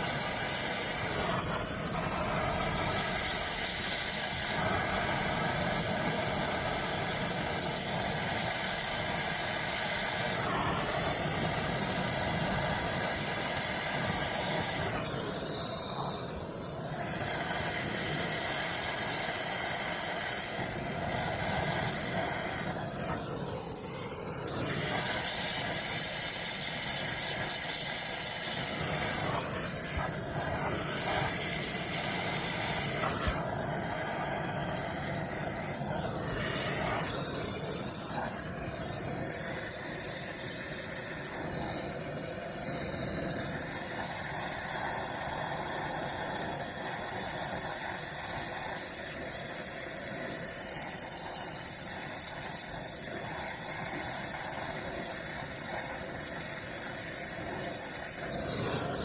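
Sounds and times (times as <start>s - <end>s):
torch flame hissing: 0.0s - 59.0s.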